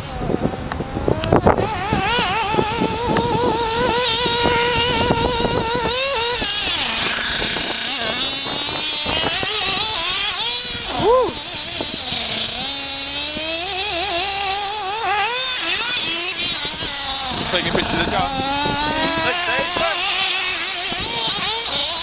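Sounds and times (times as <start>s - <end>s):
model engine running at high revs: 0.0s - 22.0s.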